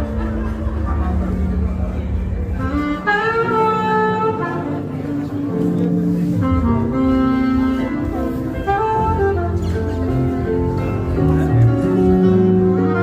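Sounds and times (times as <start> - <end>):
saxophone-like melody over bass: 0.0 - 13.0.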